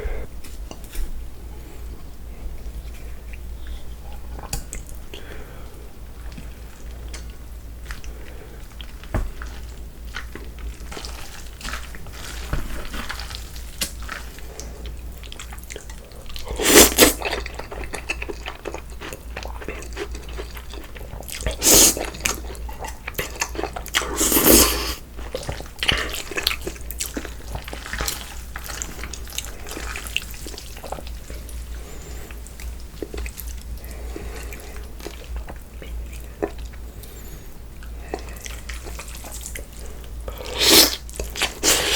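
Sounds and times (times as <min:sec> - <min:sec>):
wet chewing of noodles: 0:02.0 - 0:41.9.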